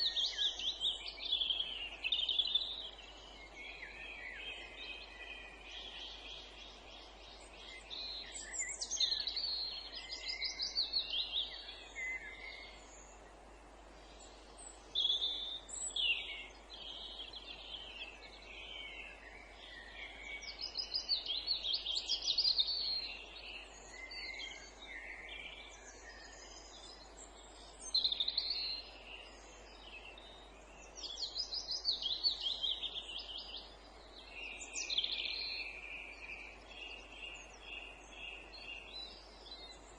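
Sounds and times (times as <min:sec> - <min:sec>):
faint steady background noise: 0:00.0 - 0:39.9
songbirds singing: 0:00.0 - 0:39.9.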